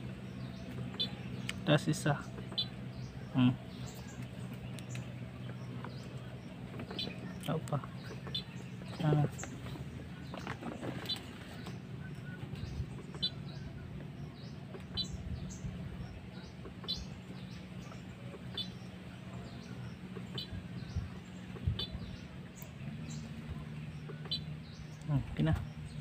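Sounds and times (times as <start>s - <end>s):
bird chirping: 0.0s - 26.0s
other high bird calls: 0.0s - 26.0s
steady low hum: 0.0s - 26.0s.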